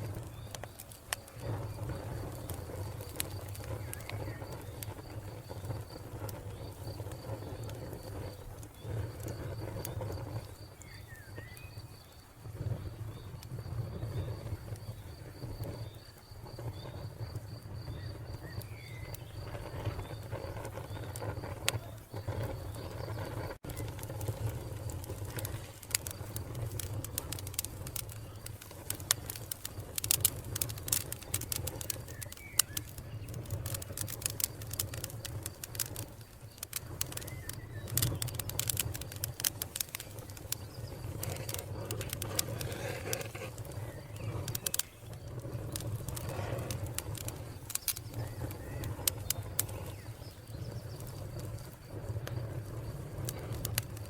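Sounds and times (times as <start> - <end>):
crickets chirping: 0.0 - 54.0
wood fire crackling and popping: 0.0 - 54.0.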